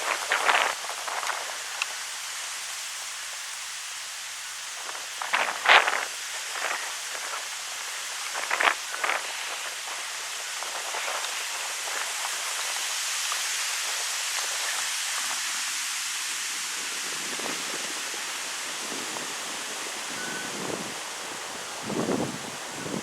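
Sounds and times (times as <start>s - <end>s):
wind rustling leaves: 0.0s - 23.0s.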